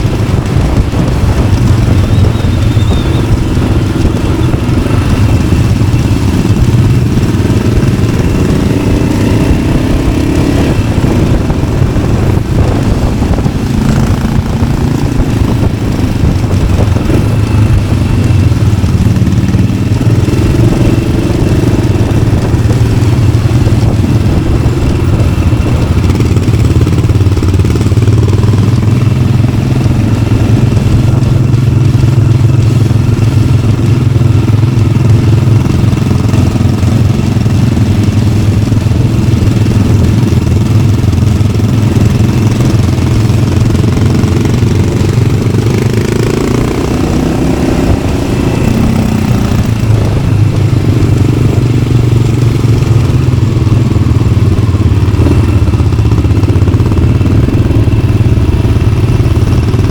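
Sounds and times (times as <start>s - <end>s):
motorcycle engine thumping: 0.0s - 59.9s.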